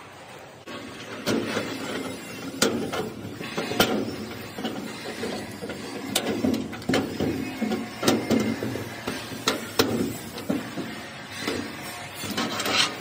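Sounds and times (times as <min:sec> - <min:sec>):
lock hardware scraping and rattling: 0:00.7 - 0:13.0.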